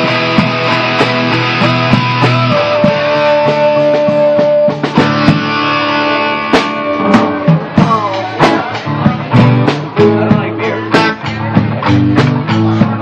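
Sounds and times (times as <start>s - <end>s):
drum kit: 0.0s - 13.0s
electric guitar lead: 0.0s - 13.0s
live rock band playing: 0.0s - 13.0s.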